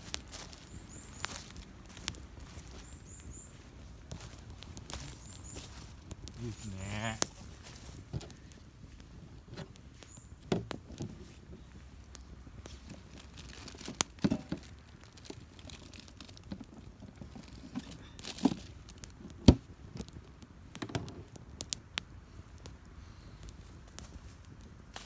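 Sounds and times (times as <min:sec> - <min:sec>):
twigs snapping and crackling: 0:00.0 - 0:25.0.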